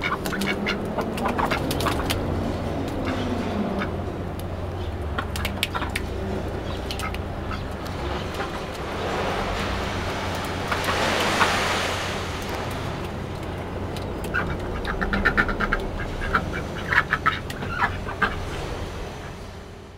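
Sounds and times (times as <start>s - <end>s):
ducks quacking: 0.0s - 12.8s, 13.4s - 19.4s
rushing noise: 0.0s - 19.9s.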